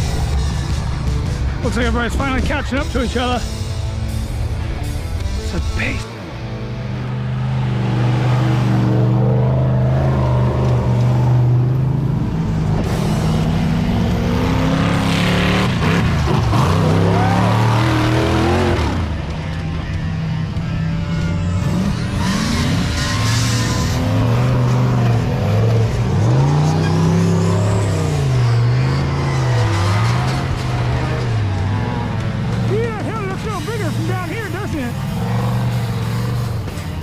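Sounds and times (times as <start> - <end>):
race truck engines running hard: 0.0 - 37.0.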